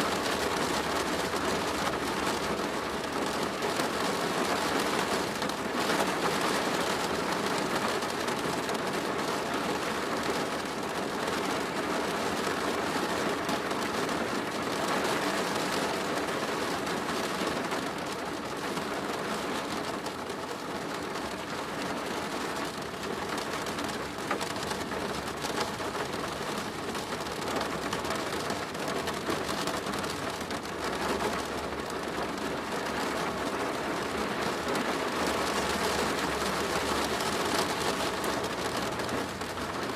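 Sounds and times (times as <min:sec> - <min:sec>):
rain drumming on a plastic roof: 0:00.0 - 0:39.9.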